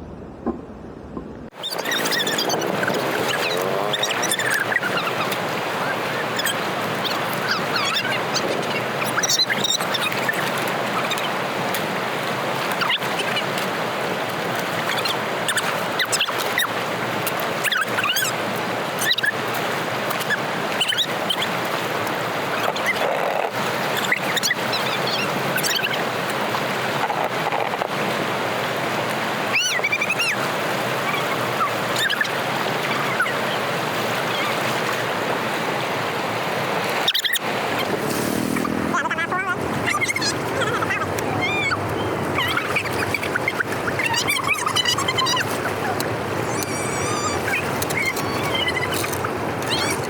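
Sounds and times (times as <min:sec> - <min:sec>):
water rushing through drainage: 0:01.5 - 0:50.0
water splashes and gurgles: 0:01.5 - 0:50.0.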